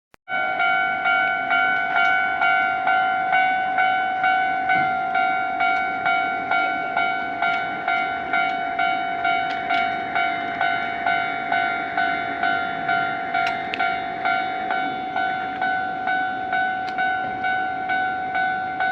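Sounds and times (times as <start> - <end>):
level-crossing warning bell: 0.3 - 18.9.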